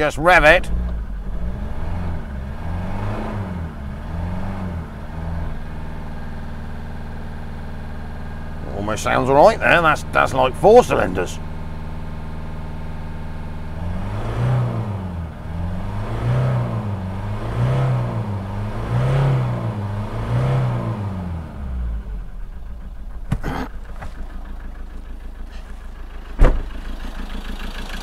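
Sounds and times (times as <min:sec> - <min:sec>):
diesel engine idling and revving: 0:00.0 - 0:28.0.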